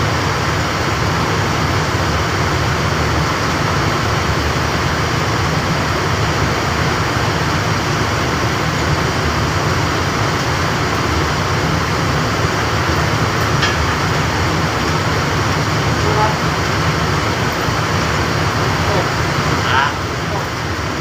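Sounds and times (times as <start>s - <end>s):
air conditioning machinery humming: 0.0s - 21.0s.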